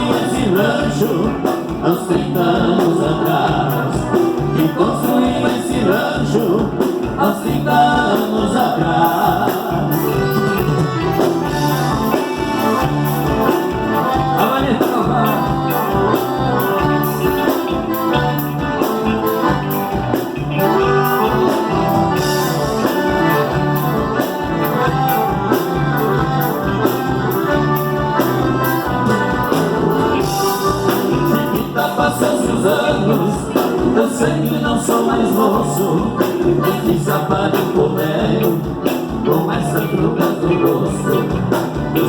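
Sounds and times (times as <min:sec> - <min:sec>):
band playing instrumental: 0:00.0 - 0:42.0.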